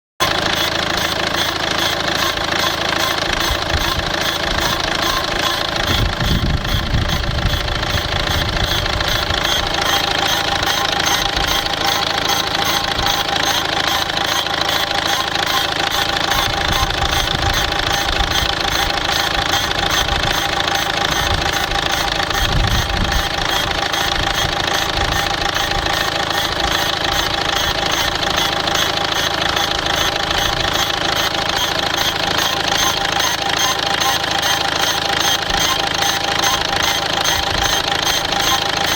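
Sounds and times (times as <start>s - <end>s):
diesel engine idling with clatter: 0.2s - 38.9s.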